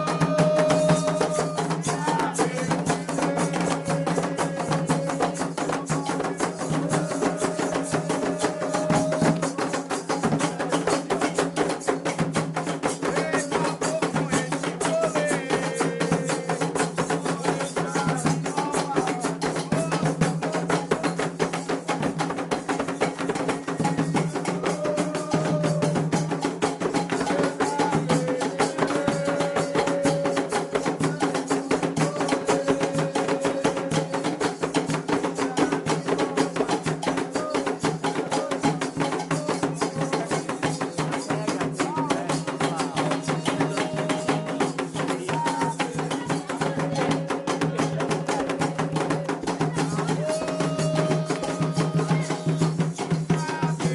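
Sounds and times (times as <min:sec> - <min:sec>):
fast hand drumming: 0:00.0 - 0:53.9
voices singing a chant: 0:00.0 - 0:53.9.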